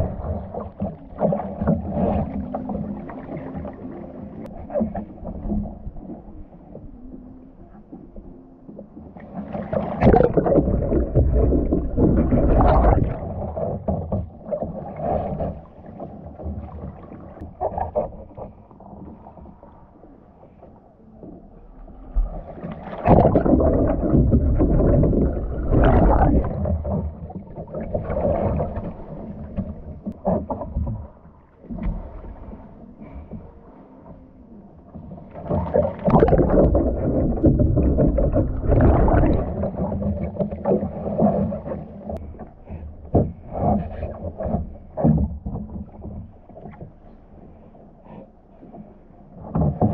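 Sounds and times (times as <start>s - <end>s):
water lapping: 0.0s - 49.9s
water sloshing and splashing: 0.0s - 49.9s.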